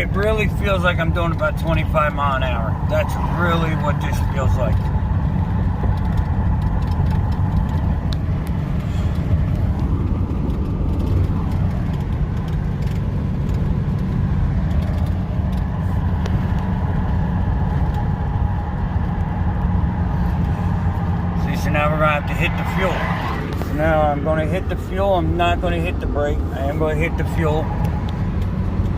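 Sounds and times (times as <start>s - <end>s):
diesel engine with exhaust brake: 0.0s - 28.9s
road noise: 0.0s - 28.9s.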